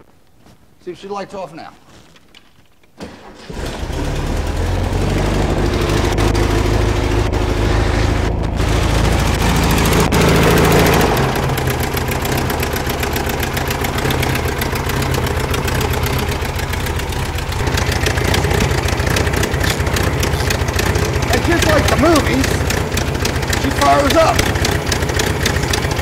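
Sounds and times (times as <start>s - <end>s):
engine running unevenly: 3.5s - 26.0s.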